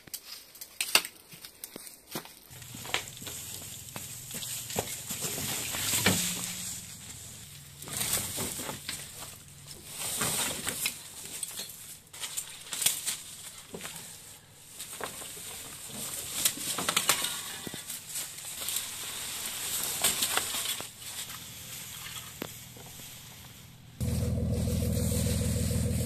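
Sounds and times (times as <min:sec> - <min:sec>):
footsteps crunching dry leaves: 0:01.2 - 0:26.0.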